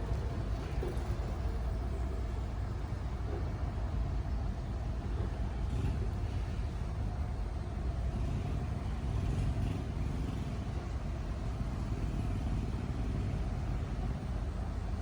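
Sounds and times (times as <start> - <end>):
heavy machine engine rumbling: 0.0 - 15.0.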